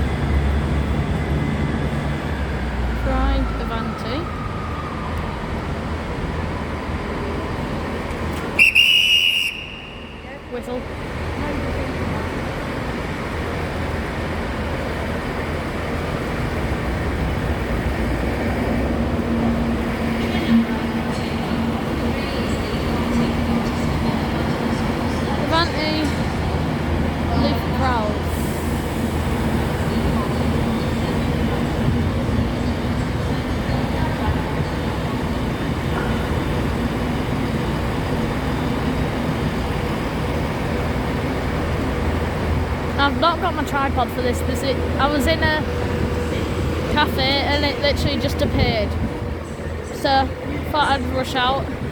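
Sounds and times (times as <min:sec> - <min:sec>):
electric train approaching: 0:00.0 - 0:51.9.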